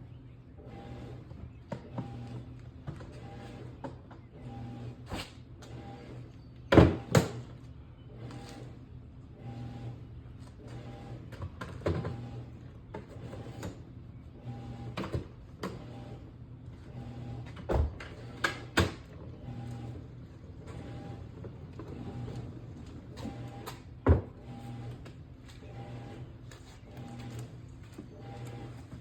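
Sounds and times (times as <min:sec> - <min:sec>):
washing machine humming: 0:00.0 - 0:29.0.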